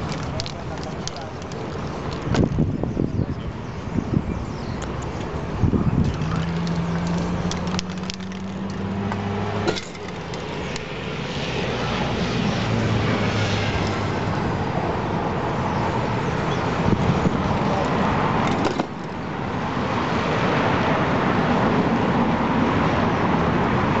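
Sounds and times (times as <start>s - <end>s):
city road traffic: 0.0s - 24.0s.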